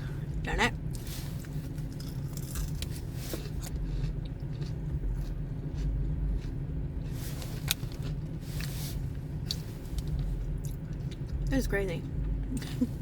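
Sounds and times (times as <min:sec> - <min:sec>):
steady low hum: 0:00.0 - 0:13.0
crunchy bites and chewing: 0:00.9 - 0:11.5.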